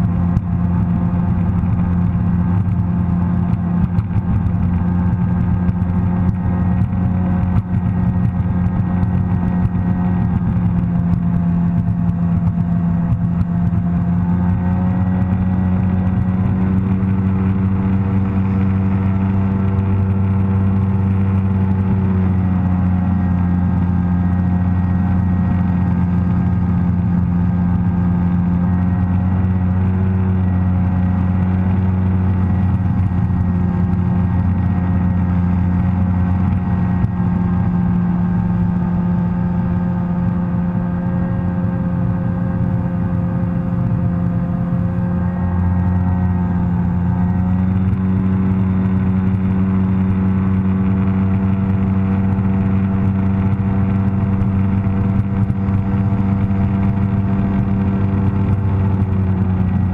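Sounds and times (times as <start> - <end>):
watercraft engine droning: 0.0 - 59.9.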